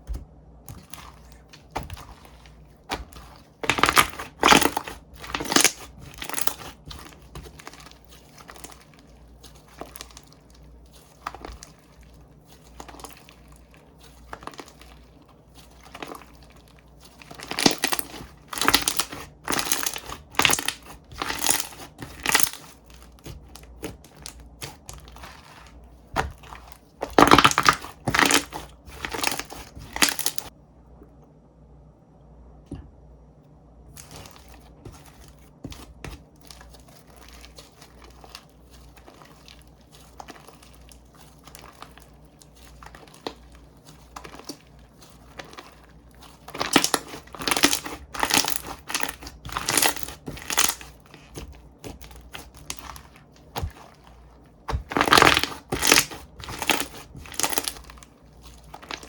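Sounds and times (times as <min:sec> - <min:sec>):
slime squished by hand: 0:00.0 - 0:30.5, 0:33.9 - 0:59.0.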